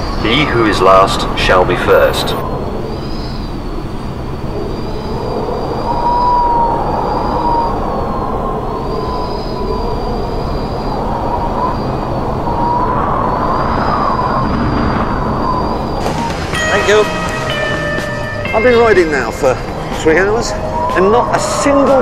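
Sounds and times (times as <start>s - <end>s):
wind rushing over microphone: 0.0s - 22.0s
thin wavering whistle: 2.3s - 22.0s.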